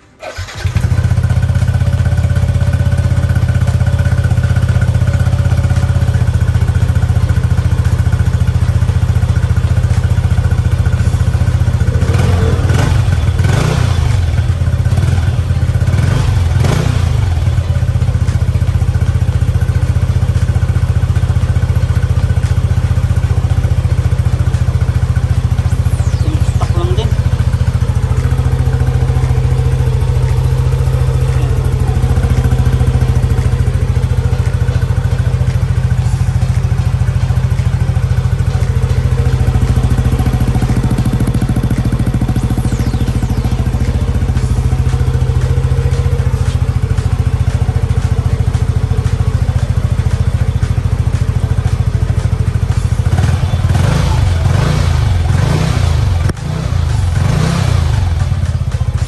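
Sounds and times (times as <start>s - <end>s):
scooter engine idling and revving: 0.0s - 59.0s.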